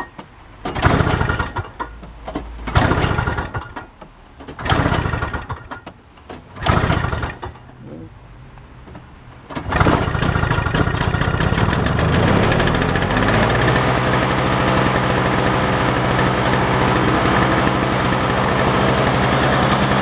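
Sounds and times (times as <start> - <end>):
snowblower engine starting and running: 0.0 - 2.0, 2.7 - 3.9, 4.6 - 5.8, 6.6 - 7.7, 9.4 - 20.0.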